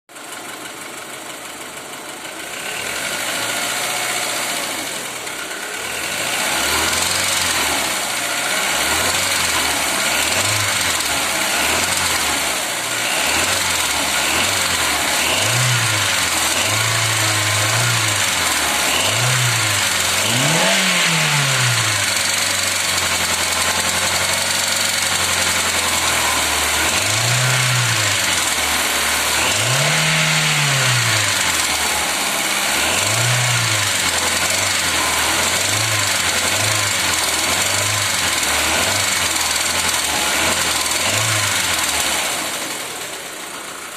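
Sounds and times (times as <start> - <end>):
engine grinding and knocking: 0.1 - 43.9
car engine revving: 2.4 - 43.9.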